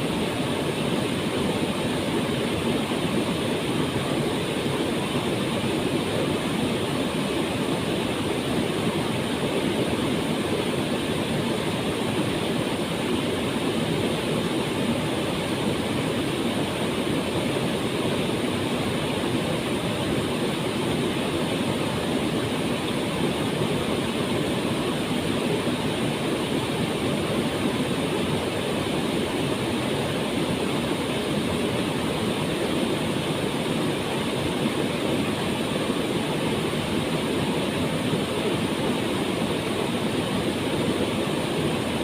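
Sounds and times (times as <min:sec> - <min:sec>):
waterfall rushing roar: 0:00.0 - 0:42.0.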